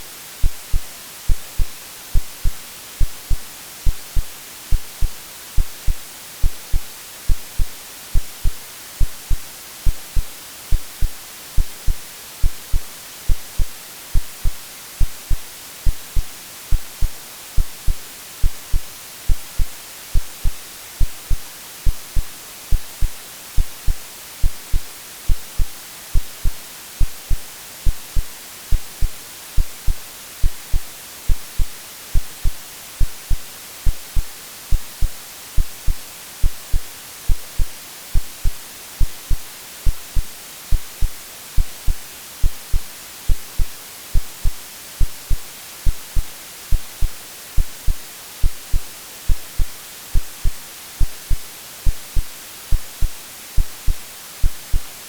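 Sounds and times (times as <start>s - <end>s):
white noise hiss: 0.0s - 55.0s
synthetic heartbeat thumps: 0.4s - 54.9s.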